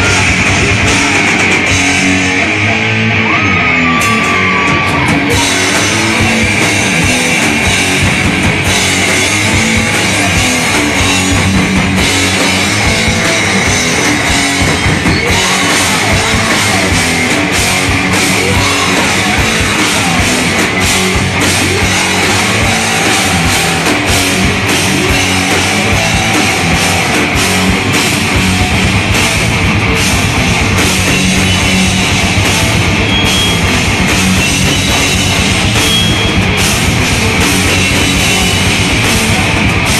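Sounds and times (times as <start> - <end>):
drum kit pounding: 0.0 - 39.9
electric guitars: 0.0 - 39.9.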